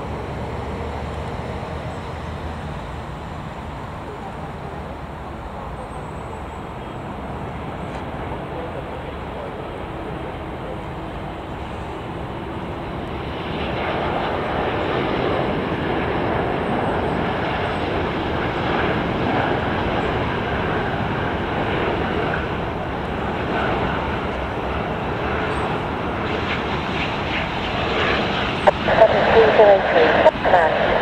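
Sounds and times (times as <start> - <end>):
jet engine rushing: 0.0 - 31.0.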